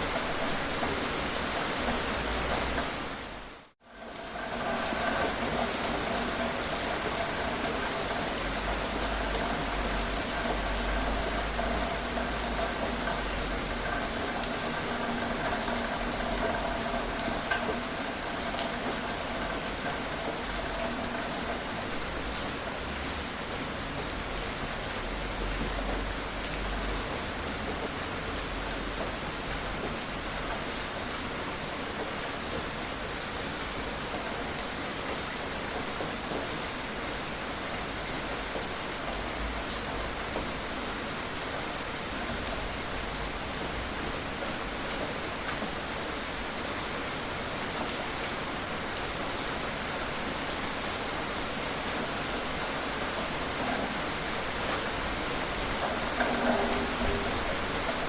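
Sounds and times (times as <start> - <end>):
gentle rain hiss: 0.0 - 58.0
raindrops ticking: 0.0 - 58.0.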